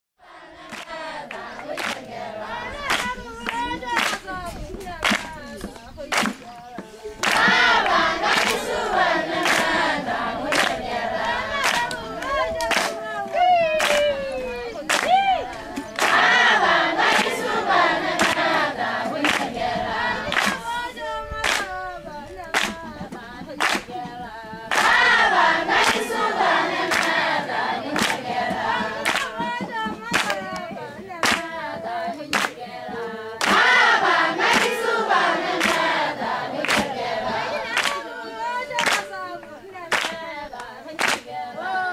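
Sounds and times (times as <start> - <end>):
group of voices singing: 0.2 - 41.9
handclaps: 0.6 - 41.9.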